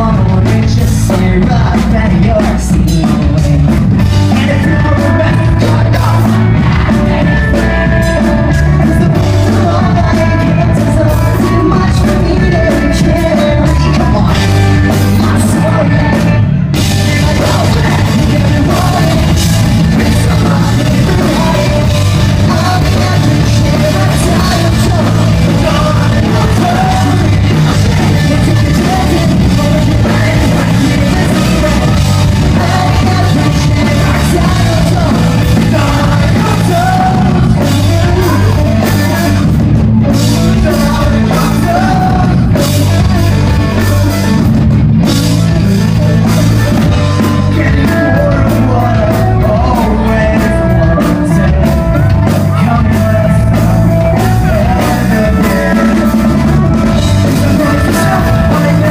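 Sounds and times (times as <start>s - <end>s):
person singing and yelling: 0.0s - 44.4s, 45.0s - 58.9s
loud rock music: 0.0s - 58.9s.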